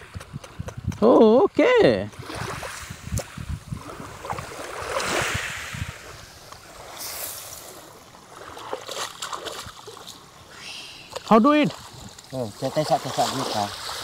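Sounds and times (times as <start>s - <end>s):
small waves washing over shore: 2.1s - 14.0s.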